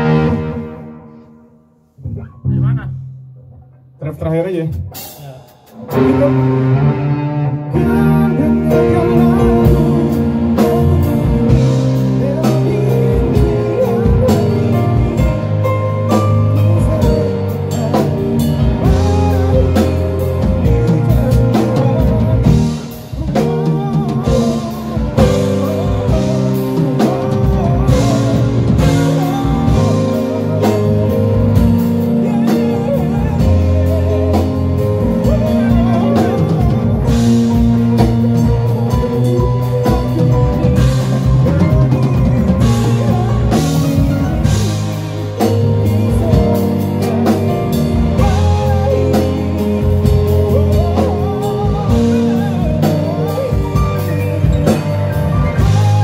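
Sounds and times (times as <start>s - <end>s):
synthesizer keyboard chords: 0.0s - 4.0s, 5.8s - 56.0s
drum kit: 0.0s - 7.2s, 7.8s - 56.0s
electric guitar: 4.8s - 56.0s.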